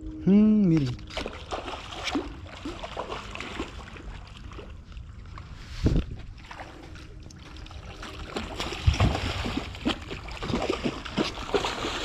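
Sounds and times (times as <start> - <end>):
fish splashing in water: 1.1 - 5.4, 6.3 - 12.0.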